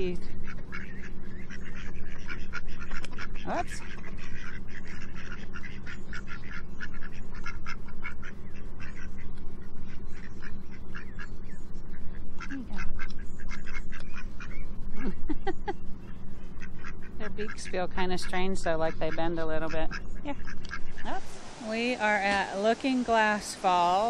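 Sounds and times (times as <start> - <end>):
ducks quacking and dabbling: 0.0 - 24.0.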